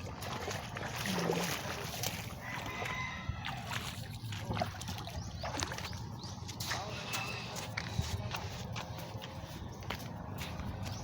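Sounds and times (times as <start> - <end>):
water sloshing against shore: 0.0 - 11.0.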